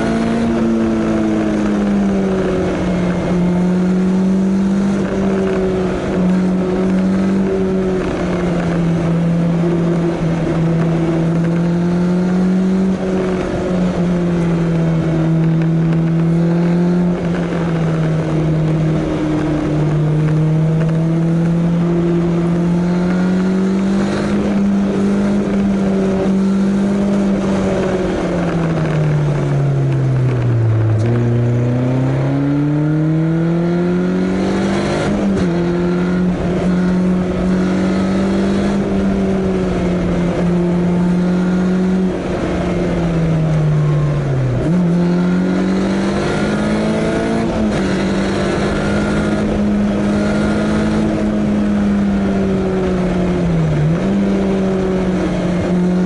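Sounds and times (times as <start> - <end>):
car engine while driving: 0.0 - 56.0.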